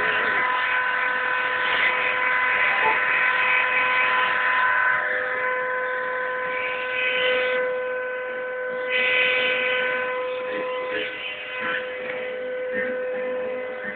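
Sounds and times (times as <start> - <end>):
machine high whine: 0.0 - 13.9.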